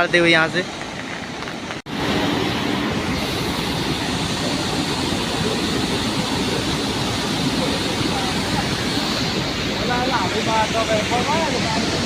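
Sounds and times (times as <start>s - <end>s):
flash flood torrent rushing: 0.0s - 12.0s.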